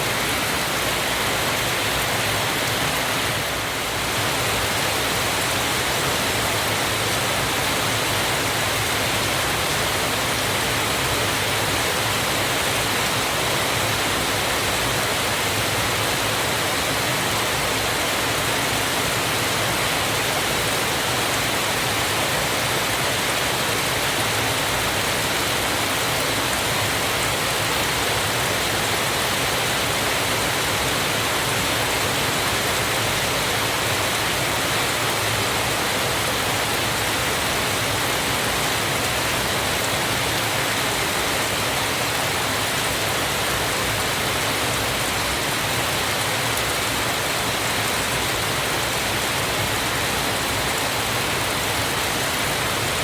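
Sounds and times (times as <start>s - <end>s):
waterfall splashing: 0.0s - 53.0s.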